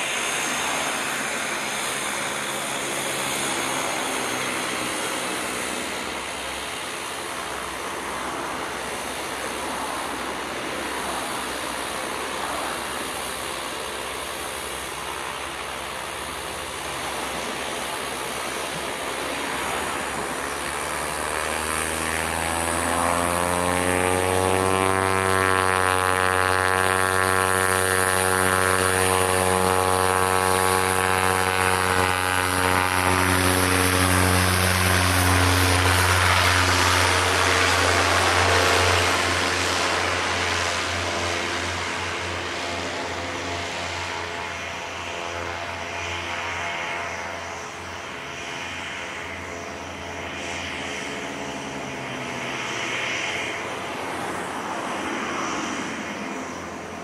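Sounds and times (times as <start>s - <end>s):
turboprop engine and propeller: 0.0s - 57.0s.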